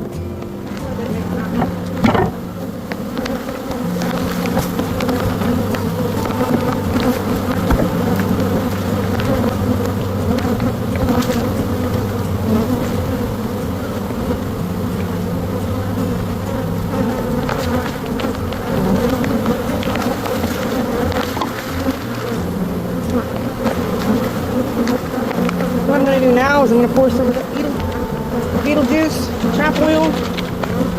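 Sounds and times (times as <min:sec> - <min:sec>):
honey bees buzzing: 0:00.0 - 0:30.9.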